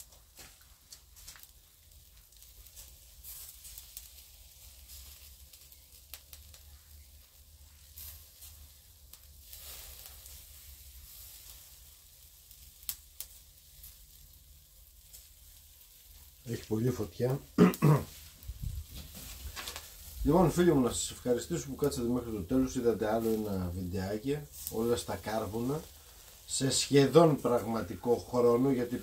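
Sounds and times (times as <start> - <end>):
meat sizzling on grill: 0.0 - 29.0
small crackles: 0.0 - 29.0.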